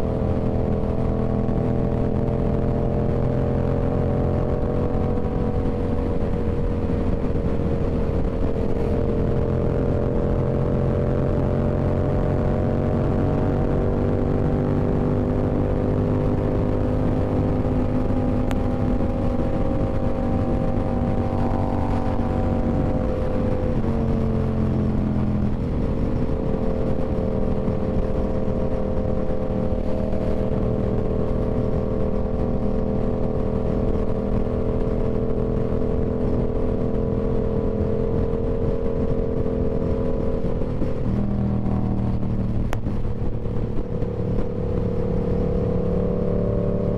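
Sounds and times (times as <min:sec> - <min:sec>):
motorcycle engine at speed: 0:00.0 - 0:46.9.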